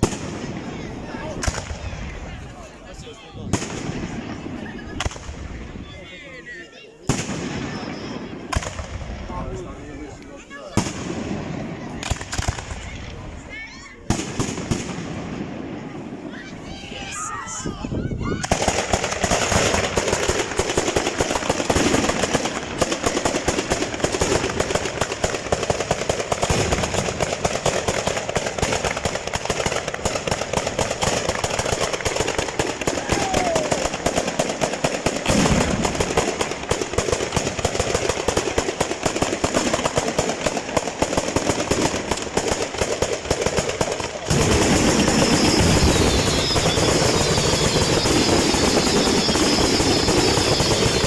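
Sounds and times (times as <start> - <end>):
firecrackers cracking rapidly: 0.0 - 51.0.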